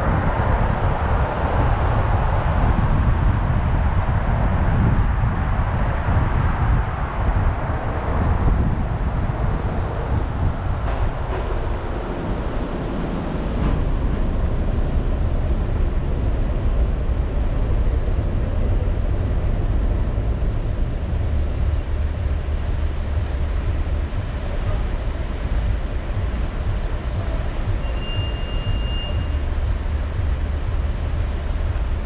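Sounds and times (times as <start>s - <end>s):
car engine rumble: 0.0s - 32.0s
tyre road noise: 0.0s - 32.0s.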